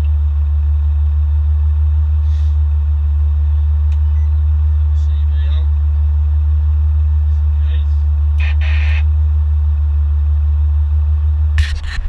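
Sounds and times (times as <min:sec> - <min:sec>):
farm vehicle engine droning: 0:00.0 - 0:12.0.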